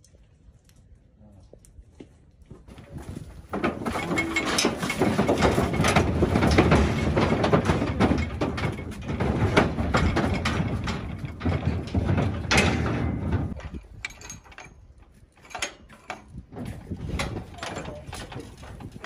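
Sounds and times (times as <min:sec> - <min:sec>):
hooves clattering on trailer floor: 0:02.5 - 0:19.0
metal trailer sides rattling: 0:03.0 - 0:19.0.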